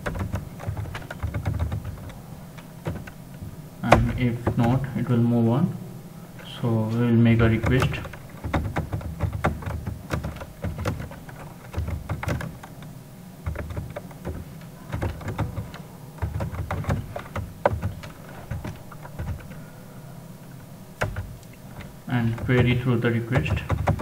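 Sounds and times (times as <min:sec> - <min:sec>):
computer keyboard typing: 0:00.0 - 0:04.9, 0:07.3 - 0:19.8, 0:20.9 - 0:24.0.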